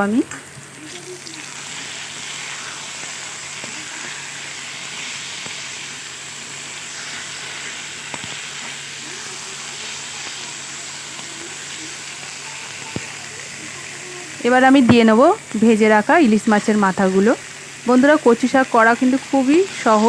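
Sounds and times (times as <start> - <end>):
leaves sizzling in oil: 0.0 - 20.0.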